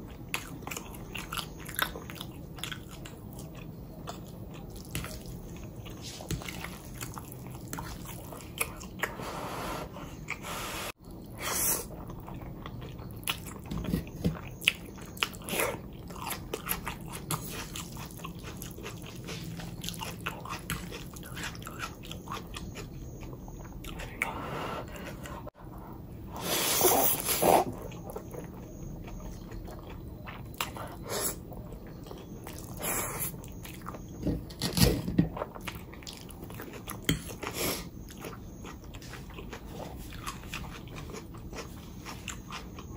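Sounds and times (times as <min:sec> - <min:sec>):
person chewing food: 0:00.0 - 0:34.4, 0:35.2 - 0:42.9.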